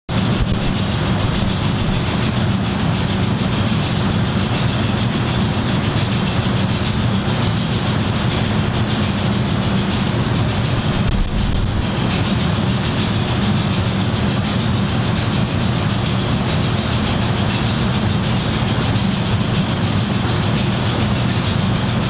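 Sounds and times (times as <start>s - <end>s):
low mechanical hum: 0.1s - 22.0s.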